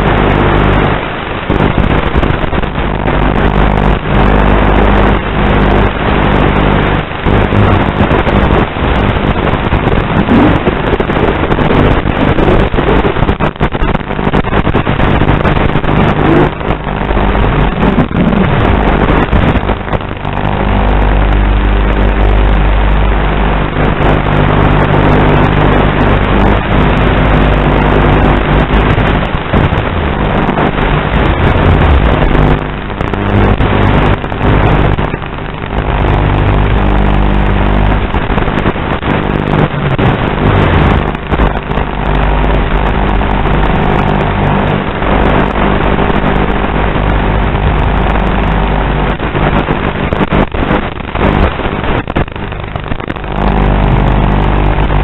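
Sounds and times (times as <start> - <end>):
electrical buzz and hiss: 0.0 - 55.0.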